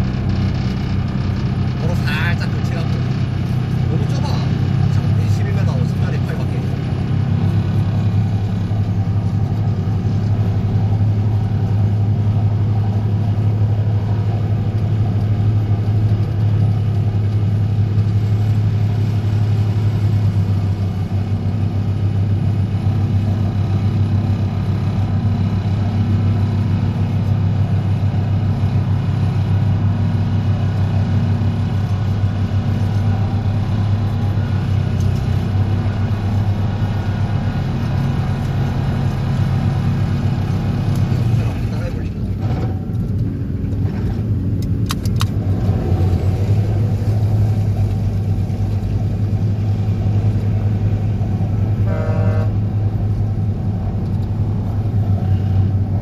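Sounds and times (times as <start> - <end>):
excavator engine under load: 0.0 - 56.0.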